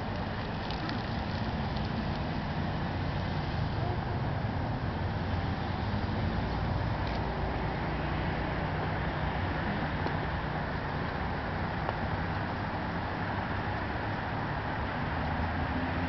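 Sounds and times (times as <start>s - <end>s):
road traffic rumble and hiss: 0.0s - 16.0s.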